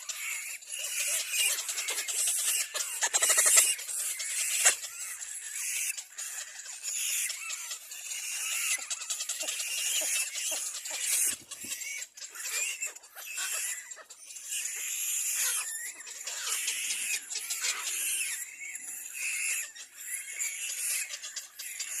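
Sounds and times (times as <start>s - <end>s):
nestlings squealing: 0.0s - 22.0s.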